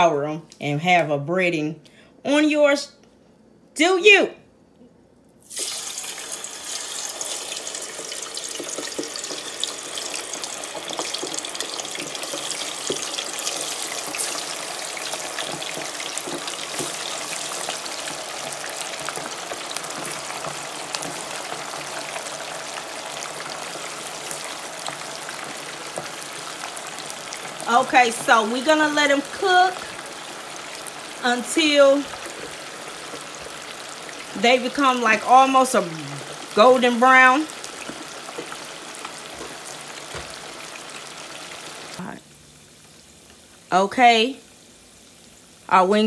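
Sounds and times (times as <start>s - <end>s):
deep-frying oil sizzling and crackling: 5.4s - 45.8s.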